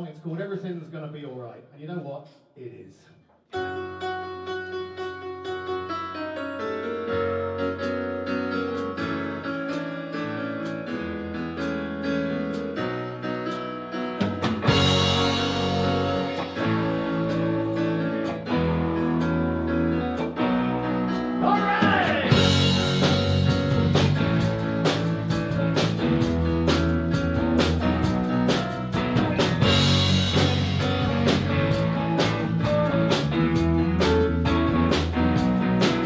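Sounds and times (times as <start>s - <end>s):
blues-rock band playing: 6.6s - 36.0s.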